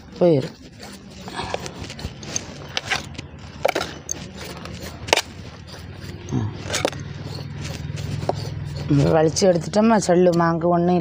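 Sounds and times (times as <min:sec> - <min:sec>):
knife scraping fish skin: 0:00.0 - 0:09.7.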